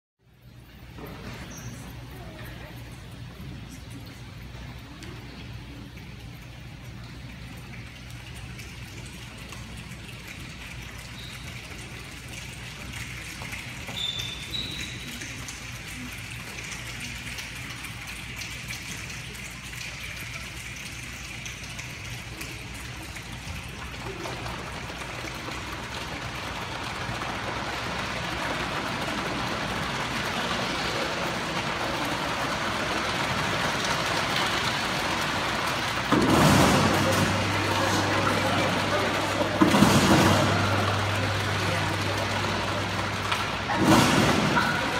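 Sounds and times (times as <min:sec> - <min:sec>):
hands rubbing and tapping like rain: 0:00.7 - 0:44.9.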